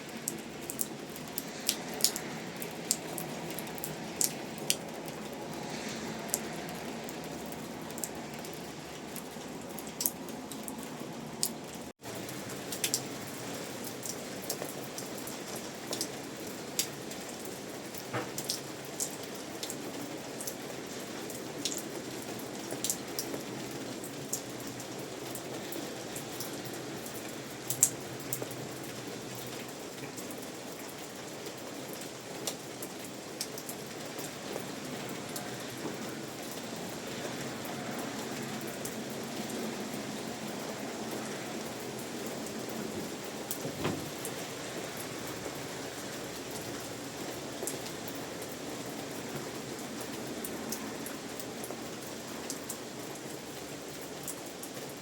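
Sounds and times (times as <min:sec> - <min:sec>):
steady rain: 0:00.0 - 0:55.0
raindrops tapping close by: 0:00.1 - 0:55.0.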